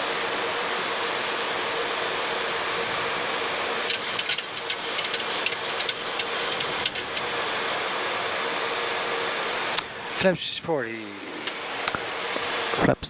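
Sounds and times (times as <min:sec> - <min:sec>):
airflow and air-conditioning hiss: 0:00.0 - 0:13.0.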